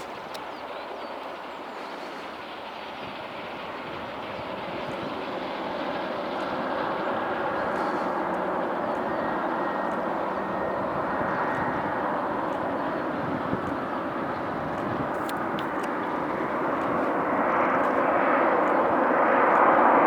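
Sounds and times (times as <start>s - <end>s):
jet engine rushing: 0.0s - 20.0s.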